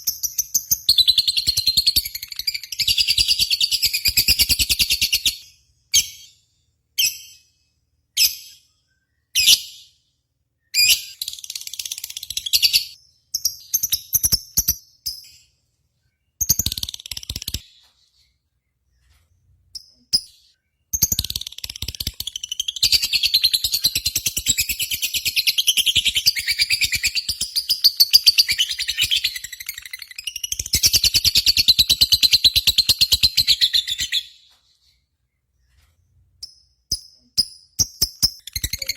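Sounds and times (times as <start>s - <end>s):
lovebirds chirping and trilling: 0.0s - 38.9s.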